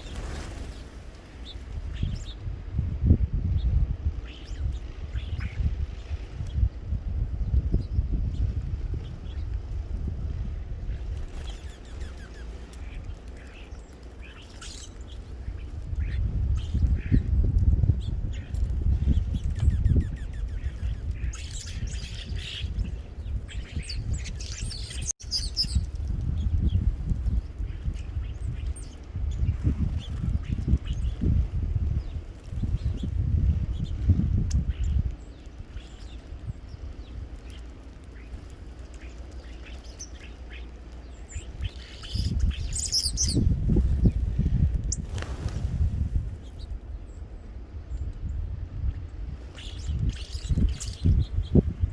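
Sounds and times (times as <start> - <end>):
birds chirping: 0.0 - 51.9
steady low rumble: 0.0 - 51.9.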